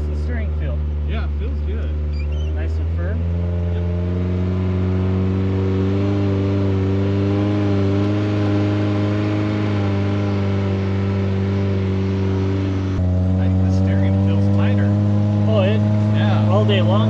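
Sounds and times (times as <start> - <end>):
car engine drone from inside: 0.0 - 17.0.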